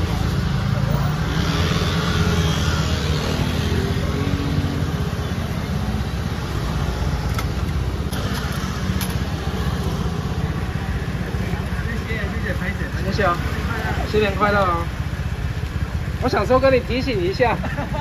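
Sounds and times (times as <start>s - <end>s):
motor scooter engine: 0.0s - 18.0s
street traffic rumble: 0.0s - 18.0s.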